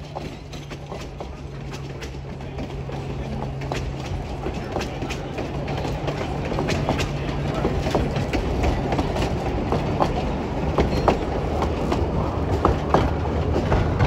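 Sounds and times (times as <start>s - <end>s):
low rolling rumble: 0.0s - 14.0s
train wheels clicking over rail joints: 0.0s - 14.0s.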